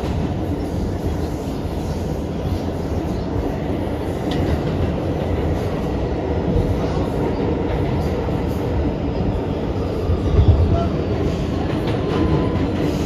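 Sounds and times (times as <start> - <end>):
steel wheels on rails: 0.0 - 13.0.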